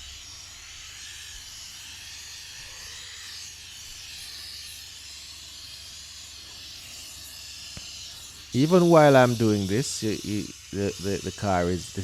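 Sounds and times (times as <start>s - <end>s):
steam cleaner hissing: 0.0s - 12.0s.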